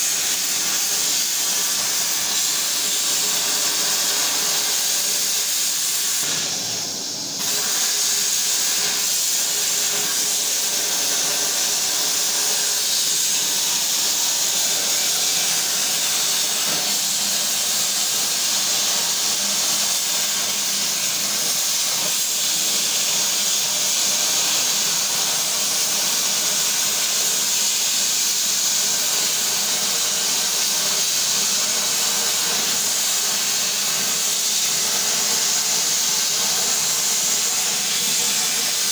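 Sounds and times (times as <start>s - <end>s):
plasma torch arc hissing: 0.0s - 38.9s.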